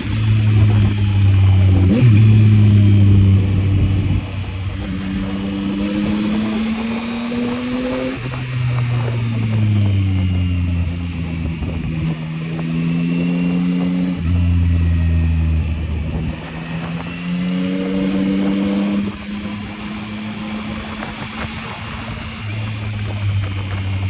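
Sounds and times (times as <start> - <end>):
motorcycle engine pulling: 0.0 - 24.0.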